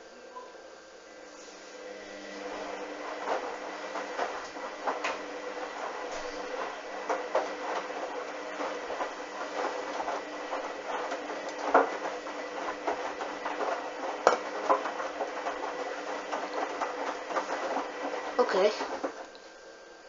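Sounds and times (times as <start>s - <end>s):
washing machine motor hum: 0.0s - 20.0s
drum tumbling clicks and knocks: 3.1s - 19.4s.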